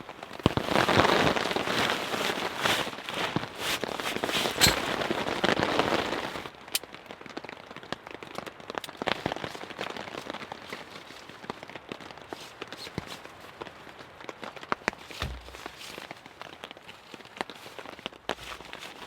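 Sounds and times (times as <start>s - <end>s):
rain dripping onto tarp: 0.0s - 19.0s.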